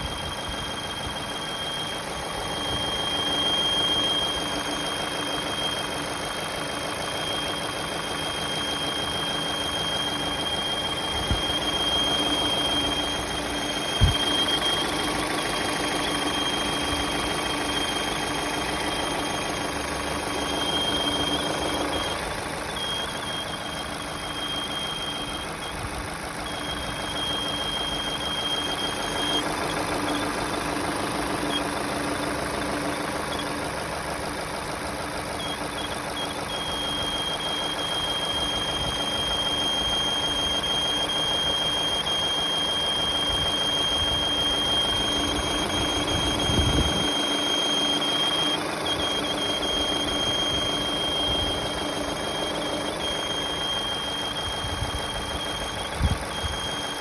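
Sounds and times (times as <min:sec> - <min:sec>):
high steady whistle: 0:00.0 - 0:33.6, 0:35.3 - 0:57.0
car engine idling: 0:00.0 - 0:57.0.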